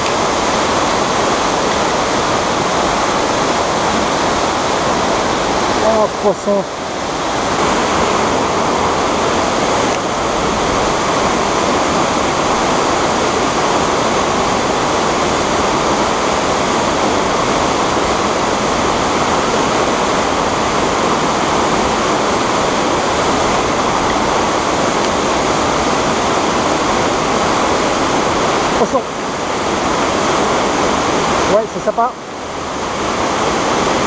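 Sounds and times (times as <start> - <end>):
fast mountain stream: 0.0 - 34.0
waterfall pouring into pool: 0.0 - 34.0.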